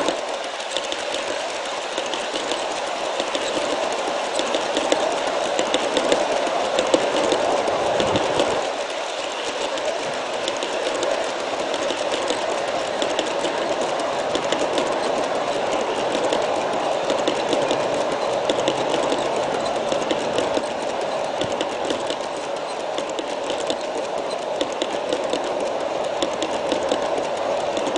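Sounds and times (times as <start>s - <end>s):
model train rolling hum: 0.0s - 27.9s
wheels clicking on rails: 0.0s - 27.9s.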